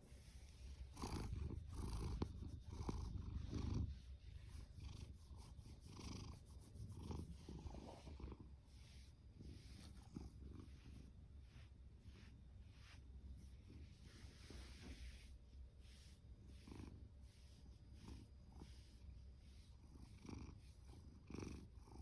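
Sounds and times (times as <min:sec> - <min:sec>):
cat purring: 0:00.1 - 0:22.0.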